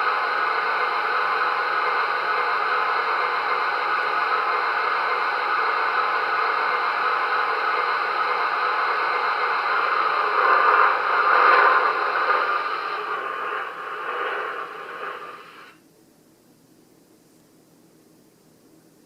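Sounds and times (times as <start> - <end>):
diesel engine sound effect: 0.0 - 15.7.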